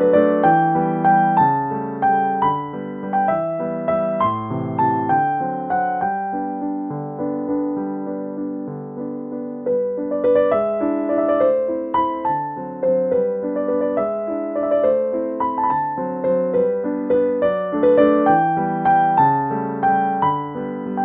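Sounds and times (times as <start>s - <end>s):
background piano music: 0.0s - 21.0s.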